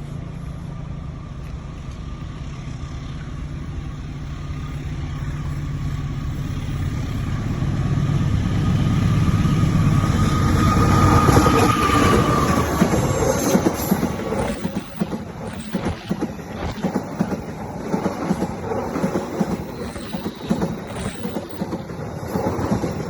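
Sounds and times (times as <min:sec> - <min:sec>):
train engine and rail rumble: 0:00.0 - 0:23.0.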